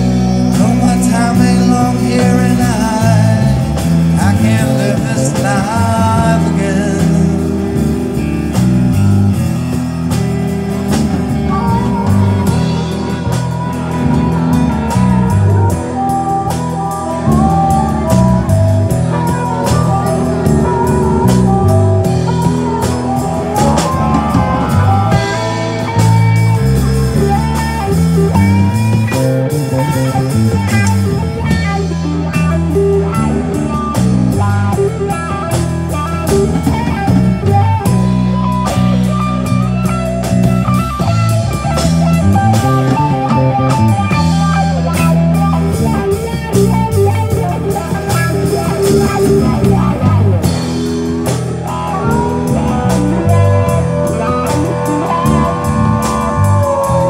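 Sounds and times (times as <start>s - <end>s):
bass line: 0.0s - 57.0s
drums: 0.0s - 57.0s
electric guitar lead: 0.0s - 57.0s.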